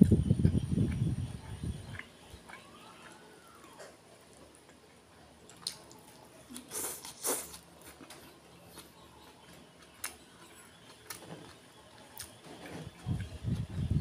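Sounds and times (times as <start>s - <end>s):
person chewing with mouth smacks: 1.8s - 10.2s, 10.8s - 13.7s.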